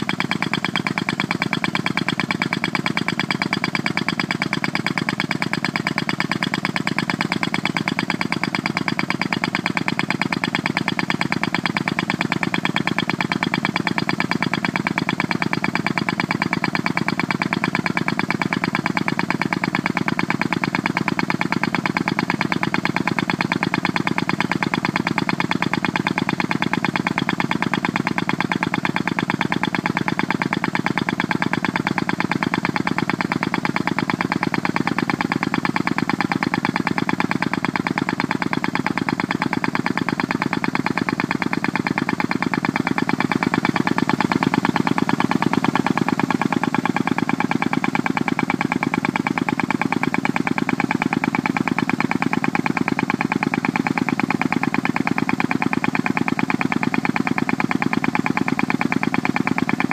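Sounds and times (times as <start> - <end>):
pneumatic tool hammering: 0.0 - 59.9.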